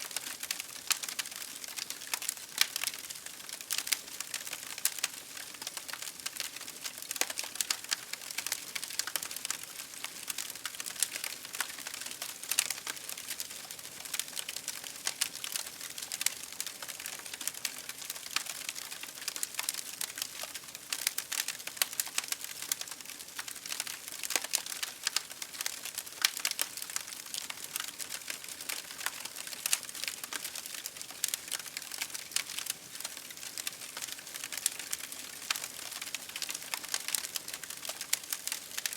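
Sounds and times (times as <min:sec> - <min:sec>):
campfire crackling: 0:00.1 - 0:38.9.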